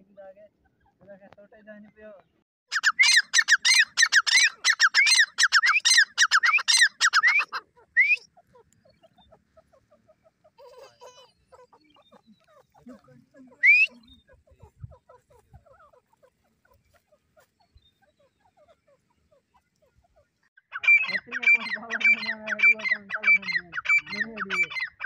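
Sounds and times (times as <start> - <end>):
soft clucks: 0.6 - 2.3, 3.4 - 25.0
francolin calling: 2.7 - 25.0.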